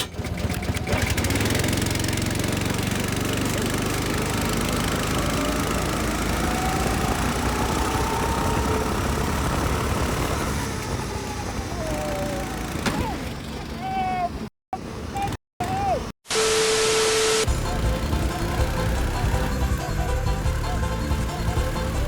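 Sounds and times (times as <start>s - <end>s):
go-kart engine running: 0.0s - 15.9s, 17.4s - 22.0s.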